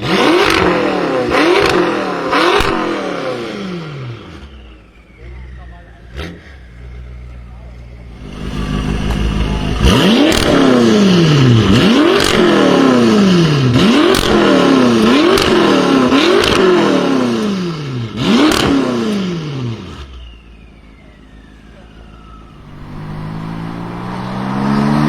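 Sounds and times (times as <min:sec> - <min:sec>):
car engine revving: 0:00.0 - 0:25.0
exhaust cracks: 0:04.2 - 0:25.0.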